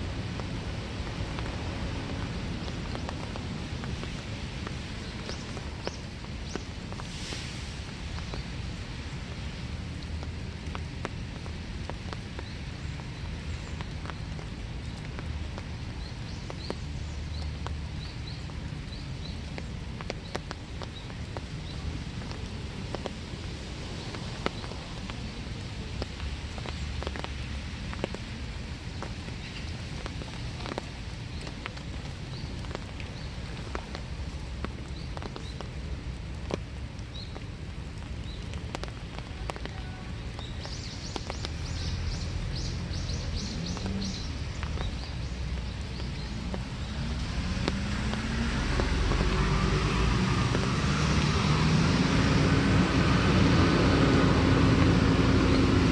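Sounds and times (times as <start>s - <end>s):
light rain: 0.0s - 55.9s
water drips on surfaces: 0.0s - 55.9s.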